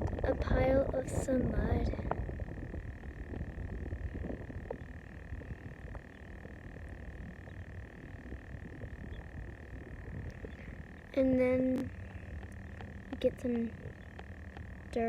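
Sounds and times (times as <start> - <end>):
low crackling rumble: 0.0 - 15.0
frogs calling: 2.1 - 15.0.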